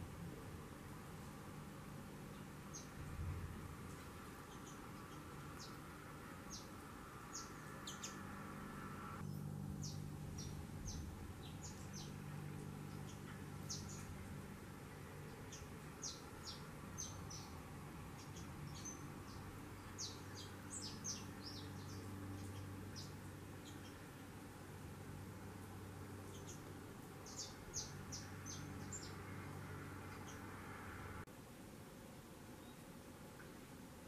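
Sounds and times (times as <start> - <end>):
small birds chirping: 2.1 - 30.8.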